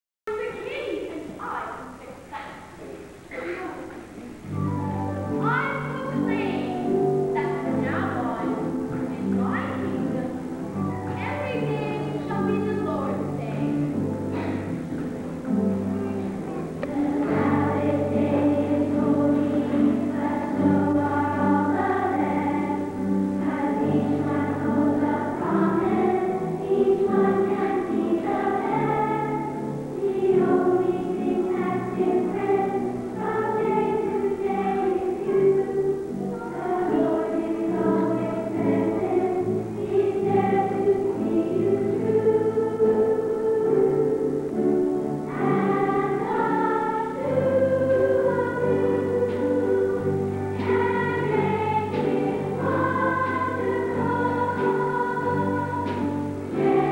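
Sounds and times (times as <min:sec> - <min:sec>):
low sustained instrumental notes: 0:03.3 - 0:56.9
choir singing: 0:04.4 - 0:56.9.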